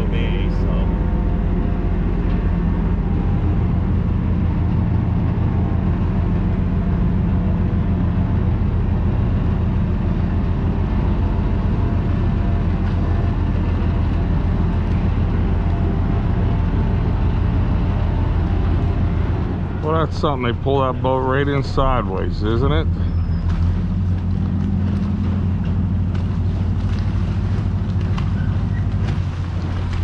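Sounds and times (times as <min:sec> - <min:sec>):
boat engine throbbing: 0:00.0 - 0:30.0.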